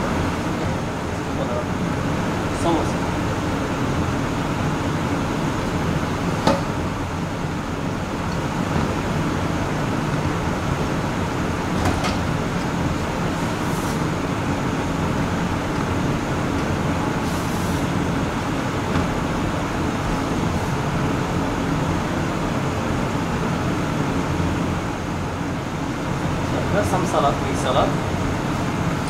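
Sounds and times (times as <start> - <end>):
kitchen ventilation roar: 0.0 - 29.0.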